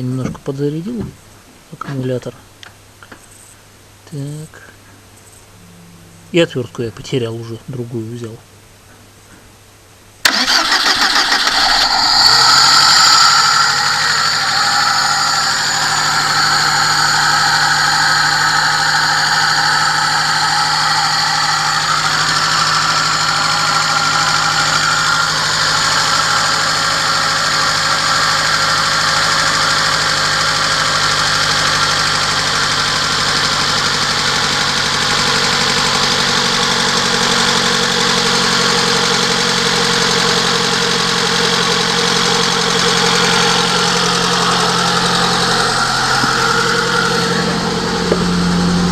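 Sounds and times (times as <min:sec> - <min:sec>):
car engine idling: 0:04.1 - 0:07.6, 0:10.2 - 0:48.9.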